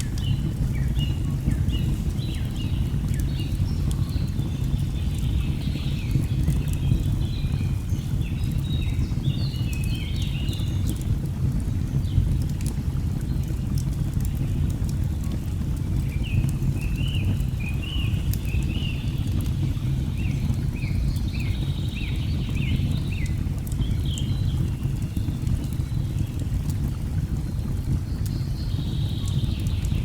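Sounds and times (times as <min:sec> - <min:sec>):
log fire crackling: 0:00.0 - 0:30.0.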